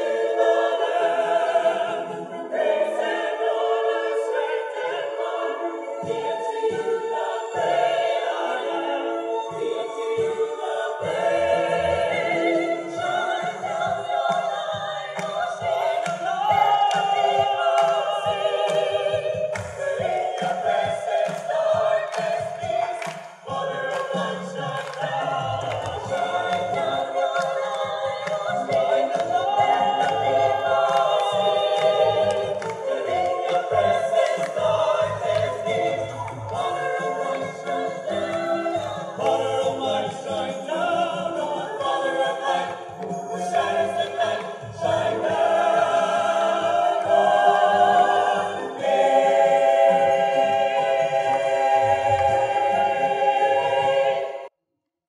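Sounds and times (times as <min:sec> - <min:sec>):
choir singing in harmony: 0:00.0 - 0:54.6.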